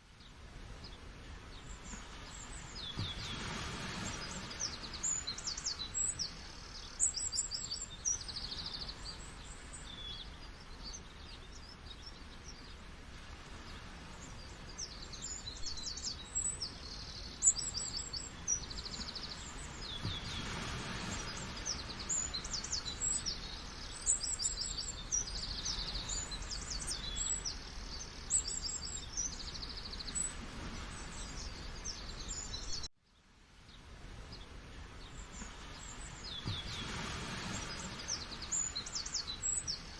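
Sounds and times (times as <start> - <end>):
running water hiss: 0.1 - 32.9, 33.5 - 39.9
small birds chirping and trilling: 0.1 - 39.9.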